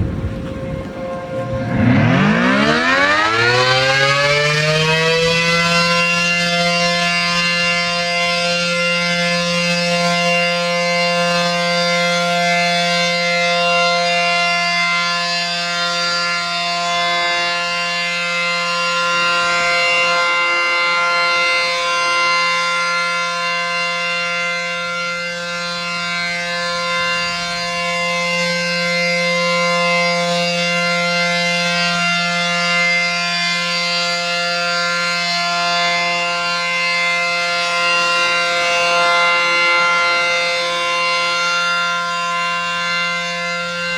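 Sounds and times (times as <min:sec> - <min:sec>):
warning siren steady tone: 0:00.0 - 0:43.9.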